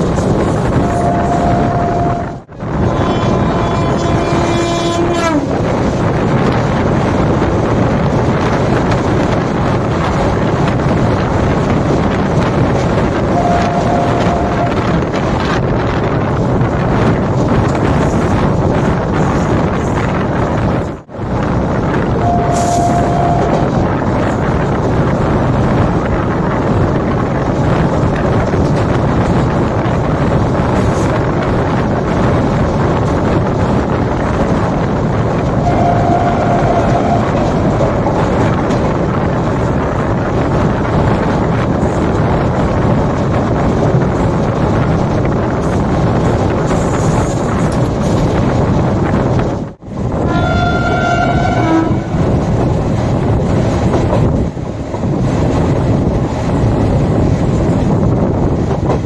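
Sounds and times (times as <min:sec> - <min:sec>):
train wheels rumbling on track: 0:00.0 - 0:59.0
wind buffeting microphone: 0:00.0 - 0:59.0.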